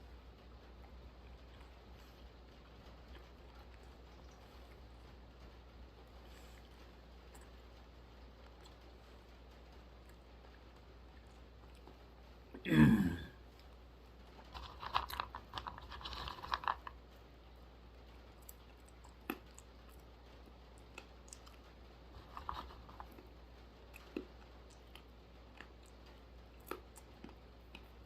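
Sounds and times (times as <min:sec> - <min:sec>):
chewing crunchy almonds: 0:00.4 - 0:12.6, 0:13.4 - 0:28.0.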